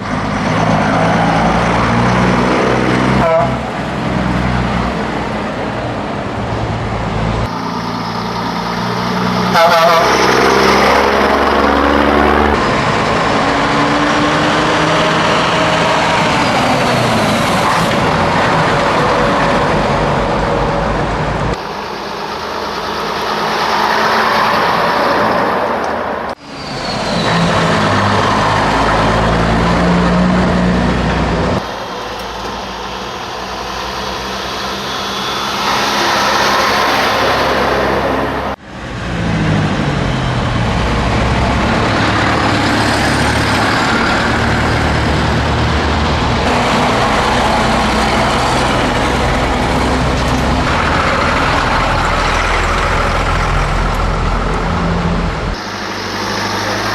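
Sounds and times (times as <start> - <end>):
diesel engine revving: 0.0 - 56.9.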